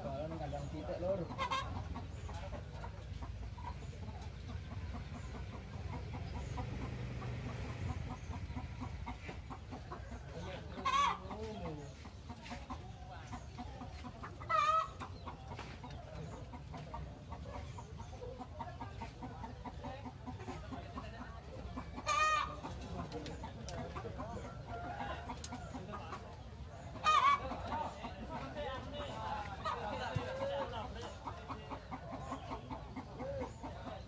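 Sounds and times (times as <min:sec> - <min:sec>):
chickens clucking: 0:00.0 - 0:34.0.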